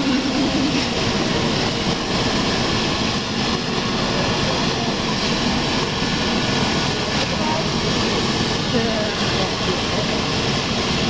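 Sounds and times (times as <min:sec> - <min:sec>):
helicopter turbine and rotor whine: 0:00.0 - 0:11.0.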